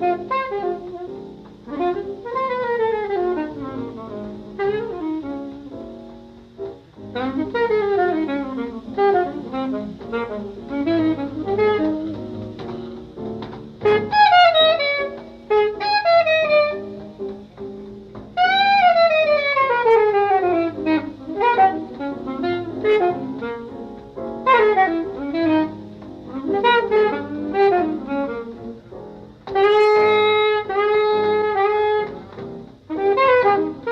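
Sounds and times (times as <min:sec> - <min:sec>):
saxophone playing fast runs: 0:00.0 - 0:05.8, 0:07.0 - 0:17.2, 0:18.4 - 0:28.9, 0:29.5 - 0:33.9.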